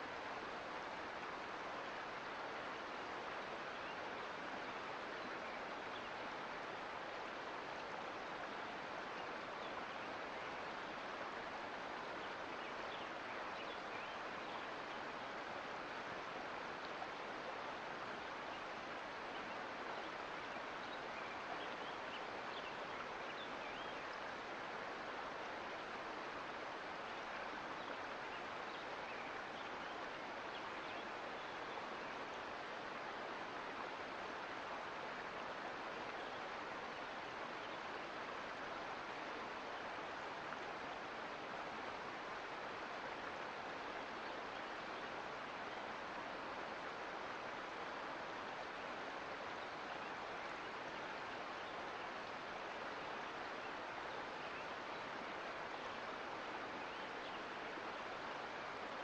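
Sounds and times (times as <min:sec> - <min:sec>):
creek water rushing: 0:00.0 - 0:59.0.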